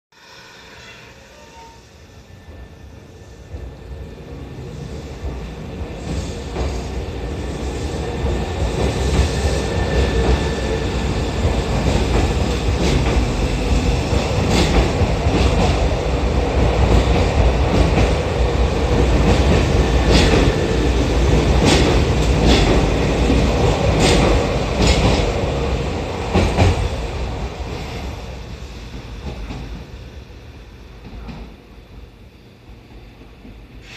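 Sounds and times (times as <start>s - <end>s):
electric train rumble: 0.2s - 33.9s.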